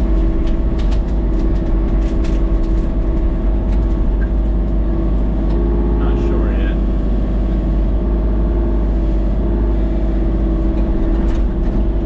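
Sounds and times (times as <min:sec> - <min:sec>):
engine droning loudly: 0:00.0 - 0:12.0.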